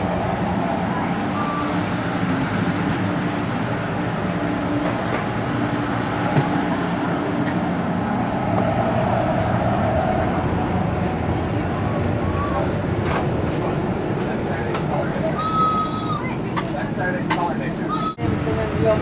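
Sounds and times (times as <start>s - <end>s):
railcar interior hum: 0.0s - 19.0s.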